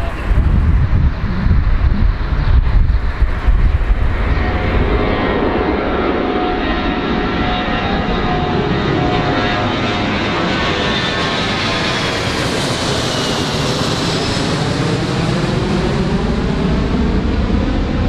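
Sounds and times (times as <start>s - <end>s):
aircraft engine running: 0.0s - 18.0s
faint engine whine: 0.0s - 18.0s
wind buffeting microphone: 0.0s - 18.0s.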